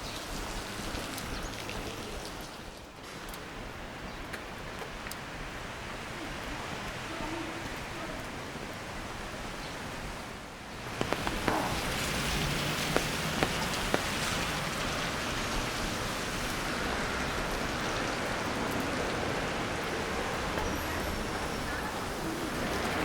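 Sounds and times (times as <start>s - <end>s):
rain on wet street: 0.0s - 23.0s.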